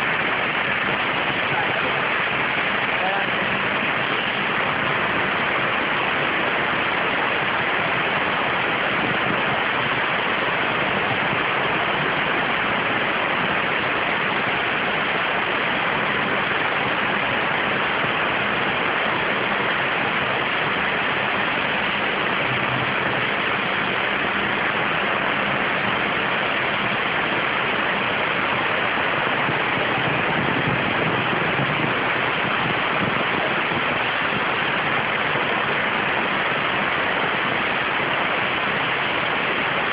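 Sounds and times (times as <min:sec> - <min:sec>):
waterjet hissing: 0:00.0 - 0:39.9.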